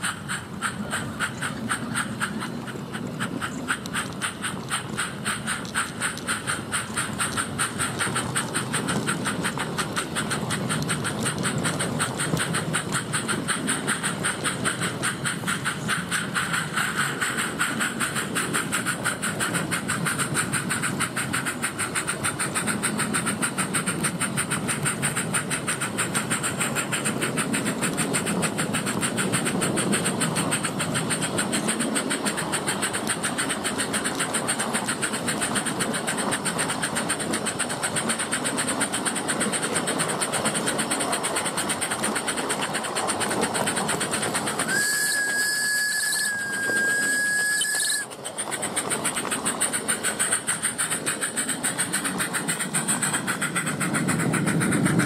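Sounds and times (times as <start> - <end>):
steam hiss: 0.0 - 55.0
steam locomotive chuffing: 0.0 - 55.0.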